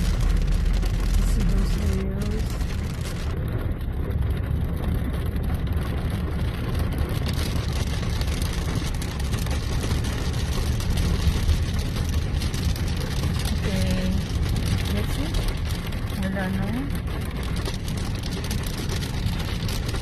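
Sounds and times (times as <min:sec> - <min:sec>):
car road and engine noise: 0:00.0 - 0:20.0
rain and hail hitting car: 0:00.0 - 0:20.0.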